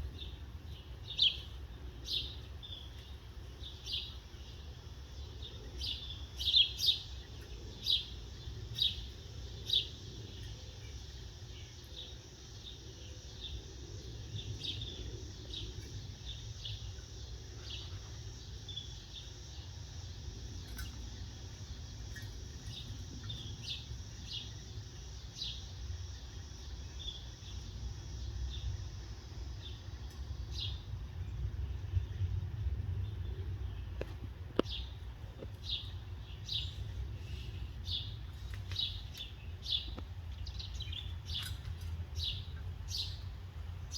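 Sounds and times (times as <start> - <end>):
small birds chirping: 0.0 - 43.9
steady low rumble: 0.0 - 43.9.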